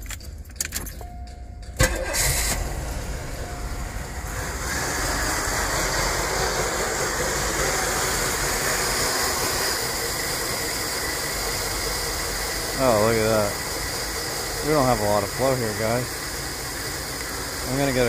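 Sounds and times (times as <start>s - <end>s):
car engine starting and running: 0.0s - 18.0s.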